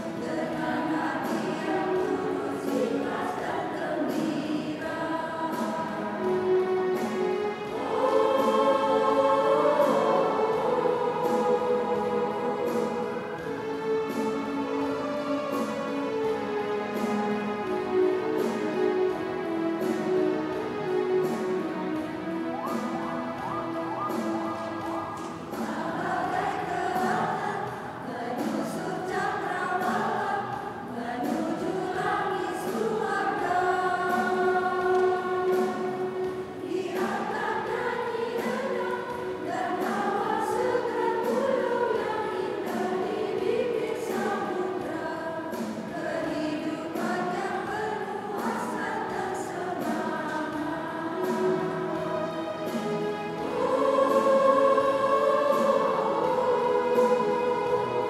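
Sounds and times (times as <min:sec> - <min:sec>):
women's choir singing a hymn: 0:00.0 - 0:58.0.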